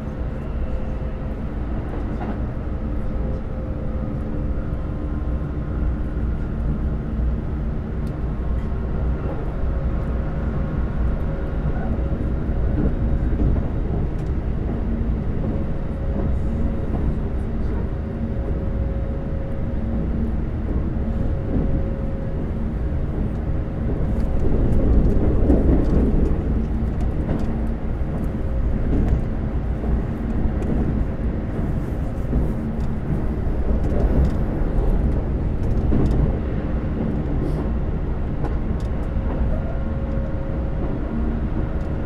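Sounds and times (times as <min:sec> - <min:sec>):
train rumble from inside: 0:00.0 - 0:42.0.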